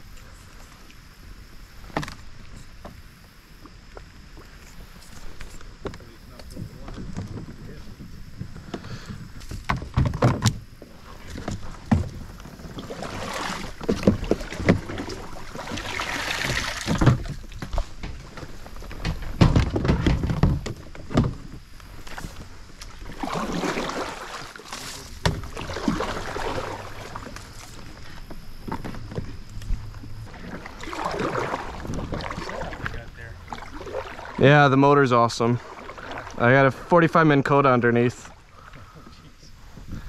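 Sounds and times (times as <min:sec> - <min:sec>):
rustle of reeds and water: 0:00.0 - 0:40.0.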